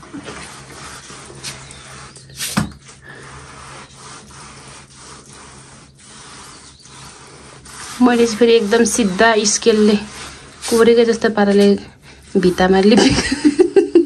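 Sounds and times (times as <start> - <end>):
hands smearing wet mud plaster: 0.0 - 11.8.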